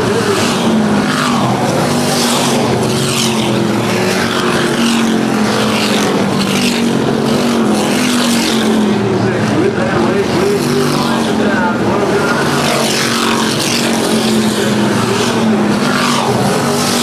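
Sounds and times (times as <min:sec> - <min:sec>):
cars passing by: 0:00.0 - 0:17.0
race car engines: 0:00.0 - 0:17.0.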